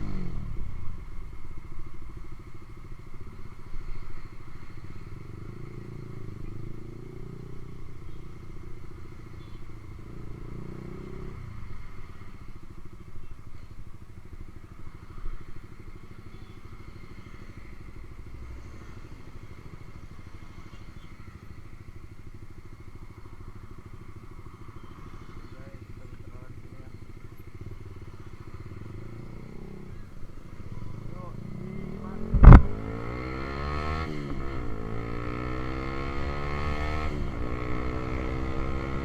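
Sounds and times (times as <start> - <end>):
motorcycle engine idling: 0.0 - 39.0.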